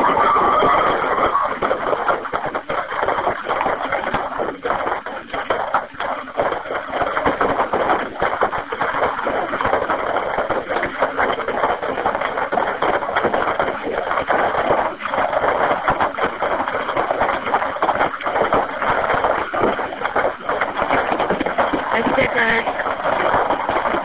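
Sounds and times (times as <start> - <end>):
fire crackling over telephone: 0.0 - 24.0.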